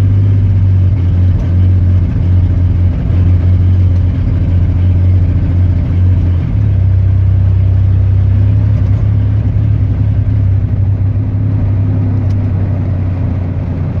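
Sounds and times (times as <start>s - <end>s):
engine running with misfire: 0.0s - 14.0s.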